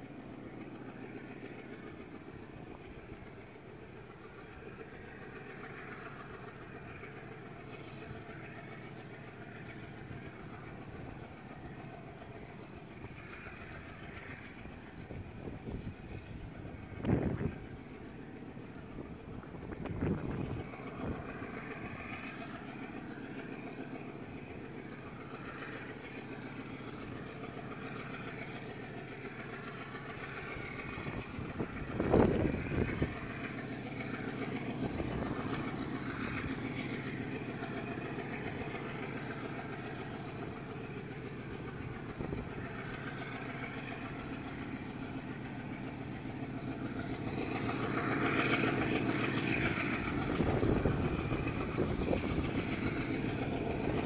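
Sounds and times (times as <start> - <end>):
locomotive diesel engine droning: 0.0 - 54.0.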